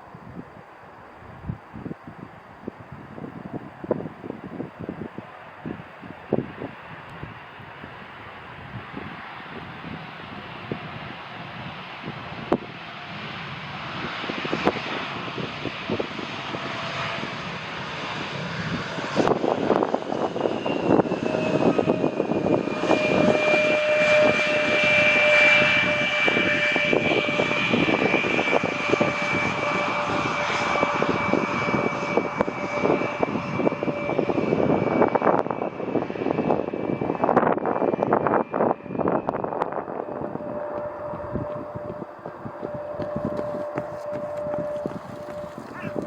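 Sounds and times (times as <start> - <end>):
high-pitched engine whine: 0.0 - 46.0
jet airliner passing: 0.0 - 46.0.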